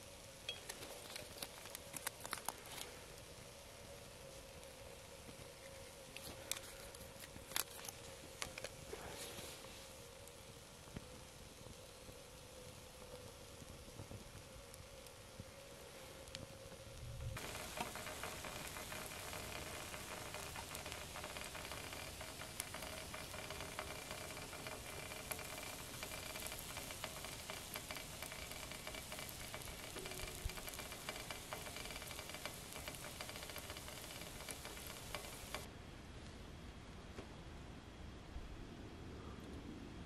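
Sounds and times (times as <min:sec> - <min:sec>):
embers crackling and hissing: 0:00.0 - 0:36.4.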